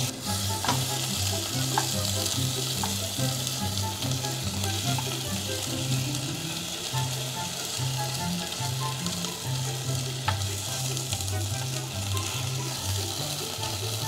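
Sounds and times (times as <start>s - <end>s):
onion rings sizzling in pan: 0.0s - 14.0s.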